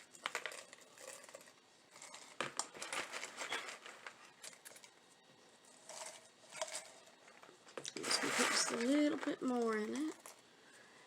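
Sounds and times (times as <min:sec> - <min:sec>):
crinkling and small clicks: 0:00.0 - 0:05.2, 0:05.8 - 0:10.5.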